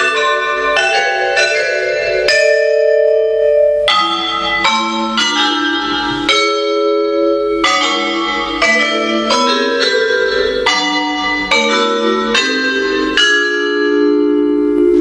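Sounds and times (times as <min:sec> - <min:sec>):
vibraphone chords: 0:00.0 - 0:15.0.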